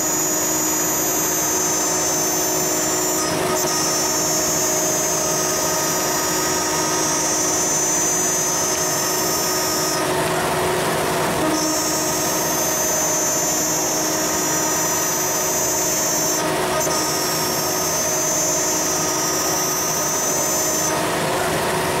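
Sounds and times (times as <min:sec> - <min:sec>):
cnc router milling metal: 0:00.0 - 0:22.0
high cutting whine: 0:00.0 - 0:22.0.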